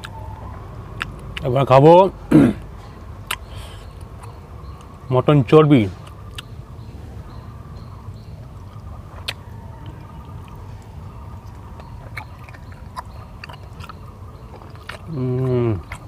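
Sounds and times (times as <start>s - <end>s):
person chewing with wet clicks: 0.0s - 1.8s, 2.6s - 5.1s, 5.9s - 16.0s.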